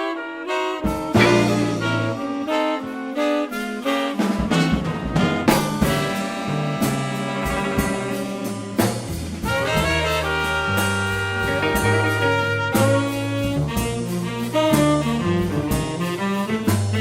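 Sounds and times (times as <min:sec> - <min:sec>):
jazz band playing blues: 0:00.0 - 0:17.0
long held horn notes: 0:00.0 - 0:17.0.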